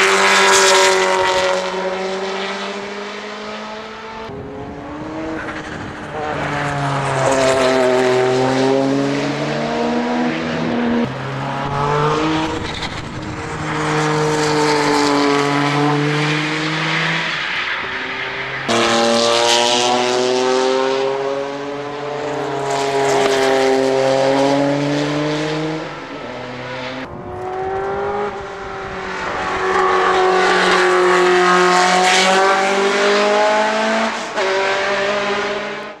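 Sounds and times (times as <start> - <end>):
race cars passing at high revs: 0.0 - 36.0.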